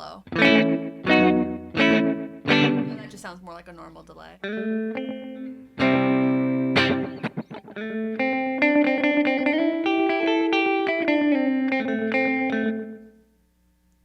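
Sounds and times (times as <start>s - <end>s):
electric guitar with delay echoes: 0.0s - 3.3s, 4.4s - 13.1s.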